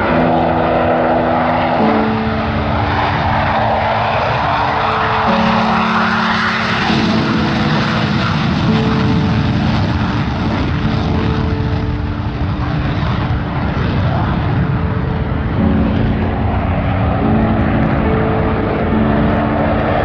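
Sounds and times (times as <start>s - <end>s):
fighter jet taking off: 0.0s - 20.0s.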